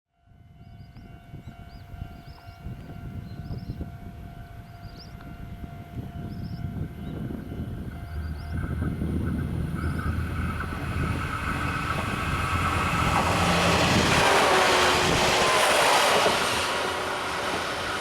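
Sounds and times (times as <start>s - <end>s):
train rumble: 0.4s - 18.0s.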